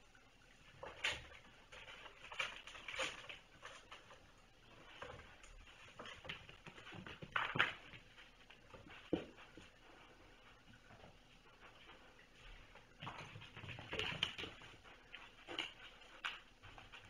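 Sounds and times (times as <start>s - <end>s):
kittens knocking and scuffling: 0.6s - 17.0s.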